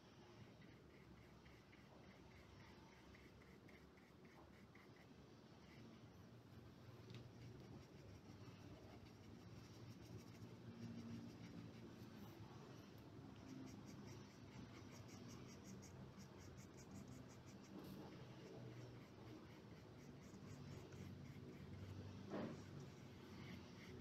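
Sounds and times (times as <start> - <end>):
low steady hum: 0.0 - 24.0
paintbrush strokes on paper: 0.0 - 24.0.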